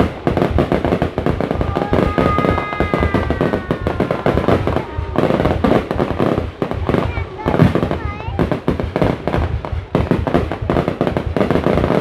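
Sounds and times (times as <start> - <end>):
fireworks crackling bangs: 0.0 - 12.0.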